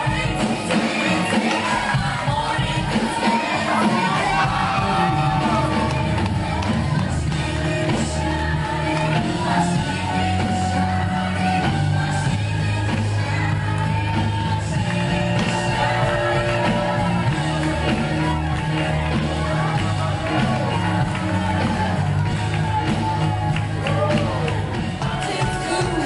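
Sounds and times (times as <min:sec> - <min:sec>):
drums: 0:00.0 - 0:26.0
keyboard: 0:00.0 - 0:26.0
people singing: 0:00.0 - 0:26.0
low bass notes: 0:04.0 - 0:25.8.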